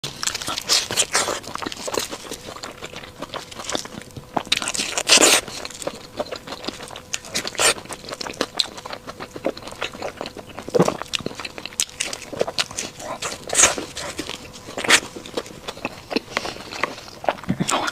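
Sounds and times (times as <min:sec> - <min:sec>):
person eating a burger: 0:00.0 - 0:17.9.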